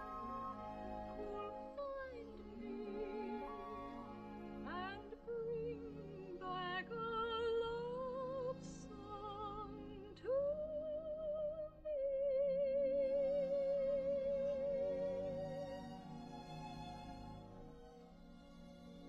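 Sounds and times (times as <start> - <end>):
woman singing opera: 0.0 - 15.8.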